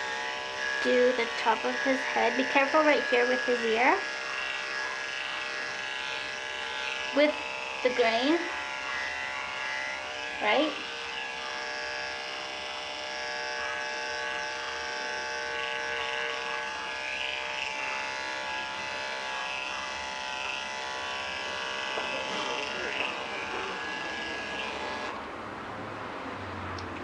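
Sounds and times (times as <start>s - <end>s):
hair clipper motor buzzing: 0.0s - 25.2s.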